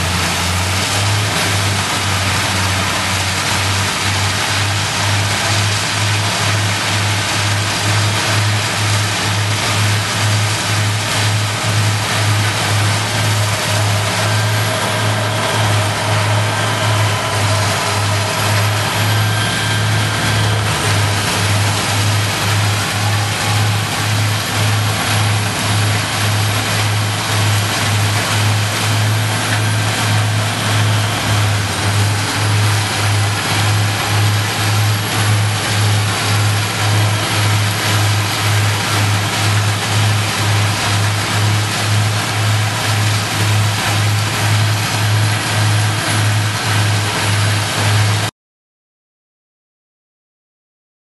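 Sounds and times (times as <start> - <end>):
drum chipper running under load: 0.0 - 48.3.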